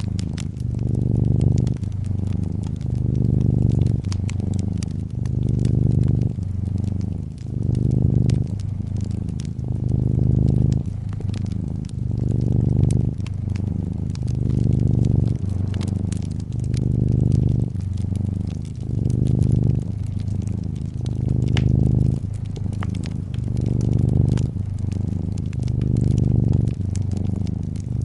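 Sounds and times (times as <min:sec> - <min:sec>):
cat purring: 0:00.0 - 0:28.0
wood fire crackling and popping: 0:00.0 - 0:28.0.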